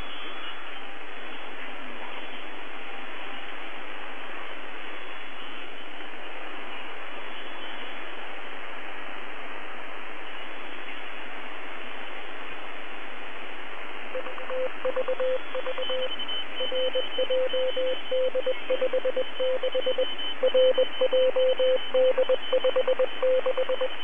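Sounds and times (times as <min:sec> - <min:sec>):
shortwave radio static hiss: 0:00.0 - 0:24.0.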